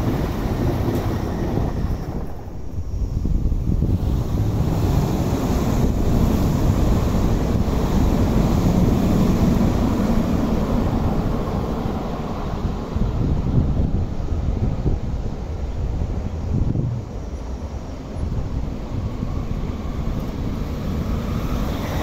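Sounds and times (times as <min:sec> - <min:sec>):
electric train rumbling past: 0:00.0 - 0:22.0
wind buffeting microphone: 0:00.0 - 0:22.0.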